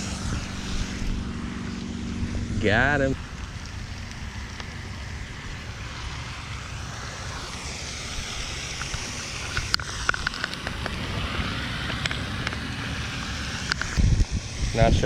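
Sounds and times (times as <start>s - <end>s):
splashy hiss: 0.0s - 15.0s
wind buffeting microphone: 0.0s - 15.0s.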